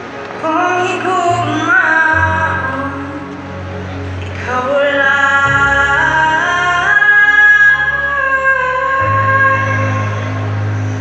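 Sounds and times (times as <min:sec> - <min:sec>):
steady bass line: 0:00.0 - 0:11.0
person singing long notes: 0:00.4 - 0:11.0.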